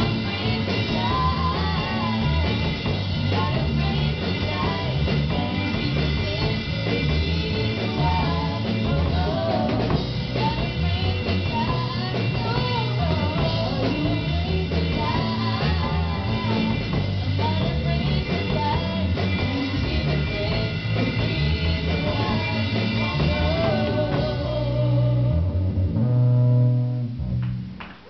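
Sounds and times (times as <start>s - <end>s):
women singing: 0.0s - 25.4s
gospel band playing: 0.0s - 28.0s.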